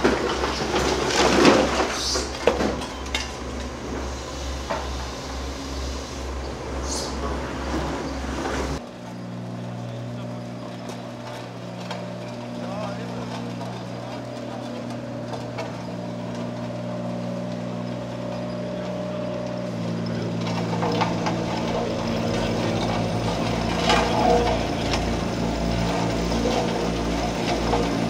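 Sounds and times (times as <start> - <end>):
heavy machinery diesel engine: 0.0 - 28.0.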